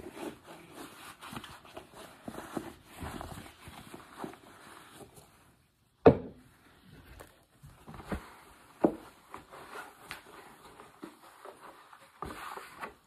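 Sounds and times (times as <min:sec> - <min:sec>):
towel rustling against plastic: 0:00.0 - 0:05.8, 0:06.5 - 0:13.0.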